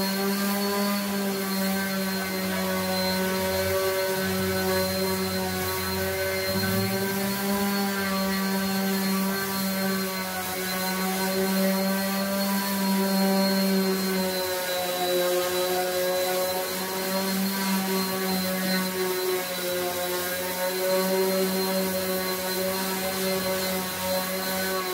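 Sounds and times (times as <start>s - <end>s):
orbital sander motor hum: 0.0s - 24.9s
sanding pad hissing on wood: 0.0s - 24.9s.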